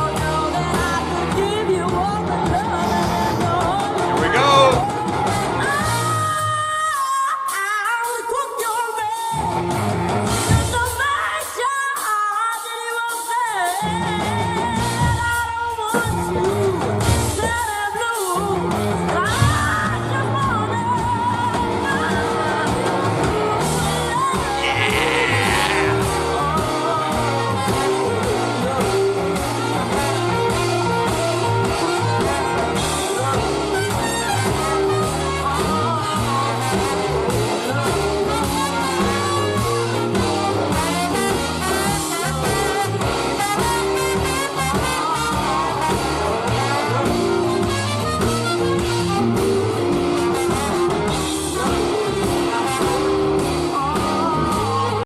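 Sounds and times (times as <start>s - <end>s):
live band with guitar and horns: 0.0s - 55.0s.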